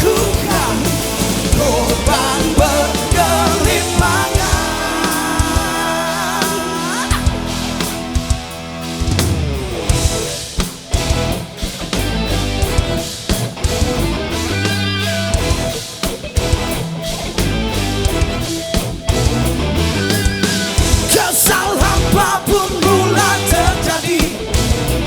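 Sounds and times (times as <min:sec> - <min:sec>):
live rock band playing: 0:00.0 - 0:25.0
wavering lead guitar line: 0:00.0 - 0:25.0.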